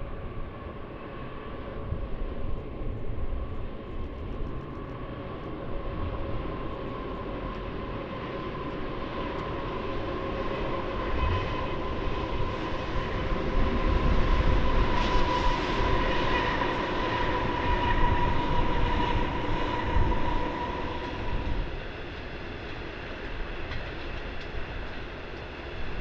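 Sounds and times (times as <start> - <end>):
electric train high whine: 0.0 - 26.0
train wheels rumbling on rails: 0.0 - 26.0.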